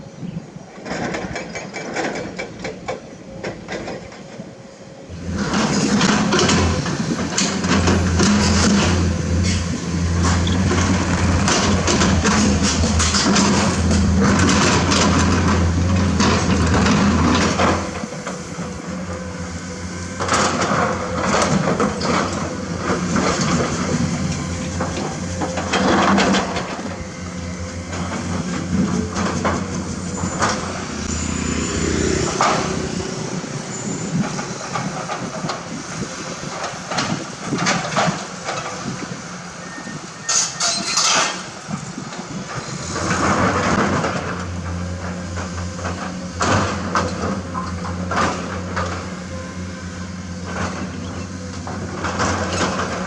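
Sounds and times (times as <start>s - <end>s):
excavator diesel engine under load: 0.1s - 53.0s.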